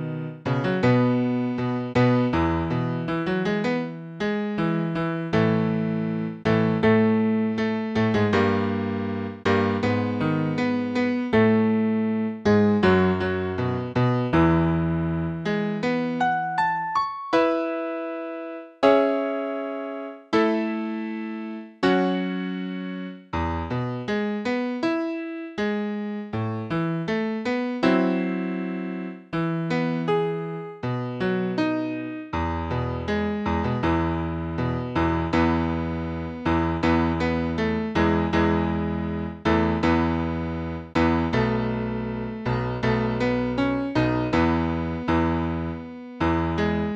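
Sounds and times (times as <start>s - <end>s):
piano chords: 0.0s - 46.9s.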